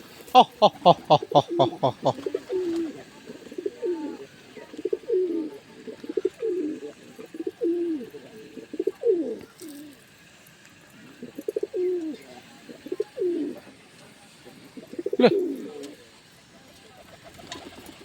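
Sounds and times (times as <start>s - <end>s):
pigeons cooing: 0.0s - 10.1s, 11.1s - 13.8s, 14.6s - 16.2s, 16.9s - 18.0s.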